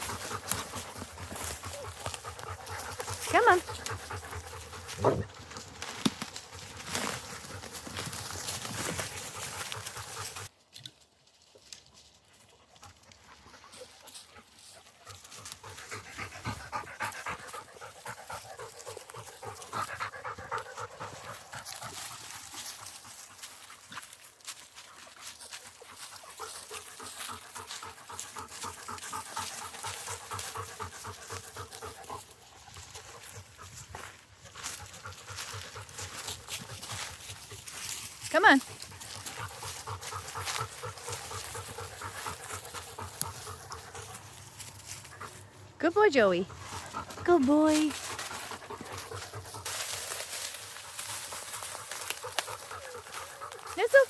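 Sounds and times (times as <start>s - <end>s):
dog panting: 0.0s - 5.8s, 6.6s - 10.5s, 12.6s - 54.0s.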